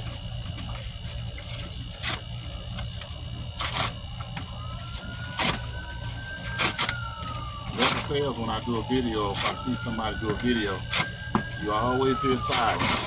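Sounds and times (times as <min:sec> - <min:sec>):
cardboard rustling: 0:00.0 - 0:13.0
distant siren wailing: 0:00.0 - 0:13.0.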